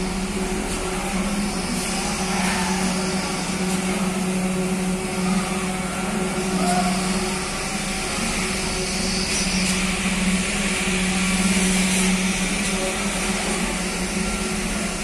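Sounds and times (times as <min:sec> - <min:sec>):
heavy machinery droning: 0:00.0 - 0:15.0.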